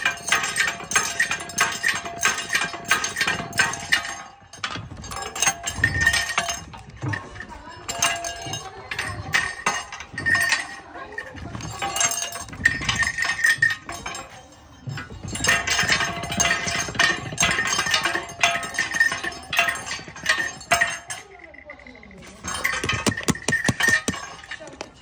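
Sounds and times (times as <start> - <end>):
juice crusher metallic jingling: 0.0 - 25.0.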